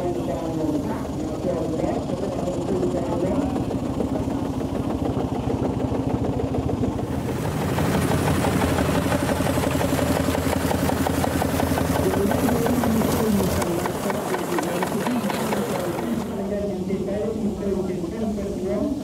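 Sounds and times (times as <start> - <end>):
engine running with rapid pulsing: 0.0 - 19.0.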